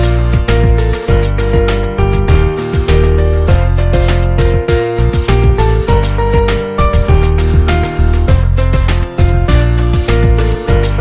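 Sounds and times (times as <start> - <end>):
upbeat music with plucked guitar: 0.0 - 11.0.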